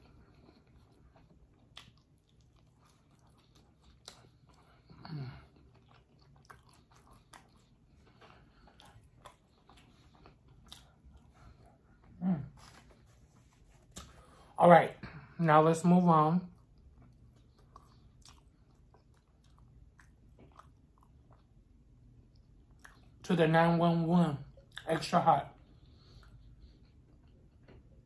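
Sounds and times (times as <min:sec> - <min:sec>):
chewing bread: 0:00.0 - 0:14.6, 0:16.4 - 0:23.3, 0:24.4 - 0:28.0.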